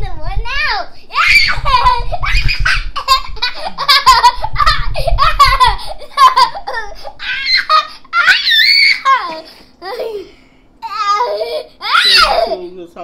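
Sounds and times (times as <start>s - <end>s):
boy laughing: 1.3s - 12.7s.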